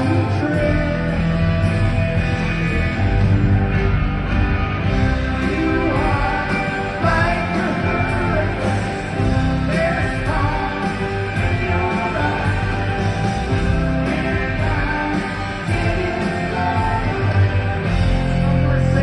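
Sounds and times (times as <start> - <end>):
person singing: 0.0 - 1.6, 5.3 - 19.0
drums: 0.0 - 19.0
electric guitars: 0.0 - 19.0
rock band playing live: 0.0 - 19.0.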